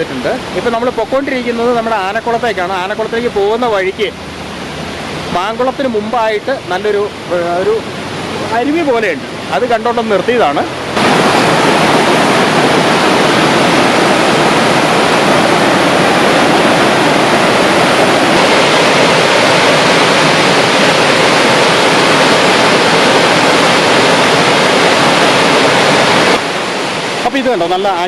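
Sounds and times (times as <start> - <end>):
stream over small waterfall: 0.0 - 28.0.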